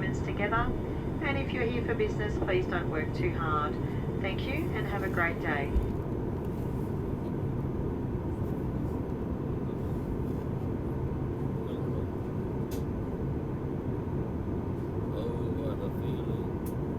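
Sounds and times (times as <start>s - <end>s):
airplane cabin rumble: 0.0s - 16.9s.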